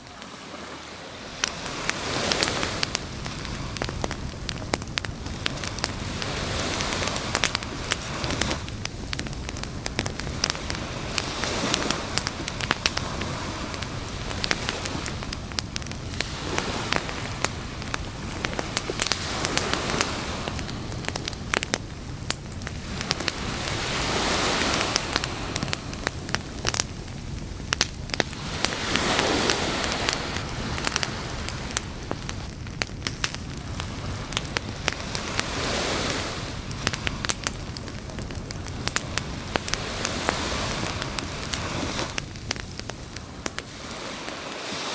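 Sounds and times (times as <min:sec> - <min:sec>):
campfire crackling and popping: 0:00.0 - 0:44.9
sea waves: 0:00.0 - 0:44.9.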